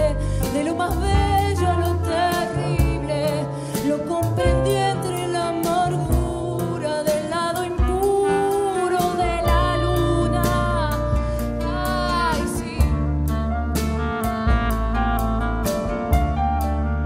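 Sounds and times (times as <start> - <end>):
woman singing: 0.0 - 15.3
electric bass: 0.0 - 17.0
guitars: 0.0 - 17.0.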